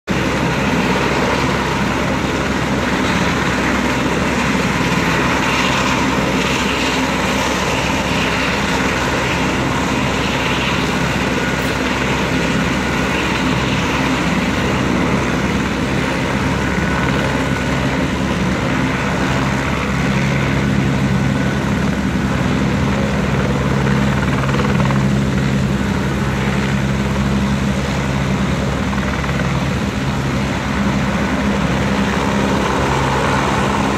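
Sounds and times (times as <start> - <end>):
helicopter engine and rotor: 0.0 - 33.9.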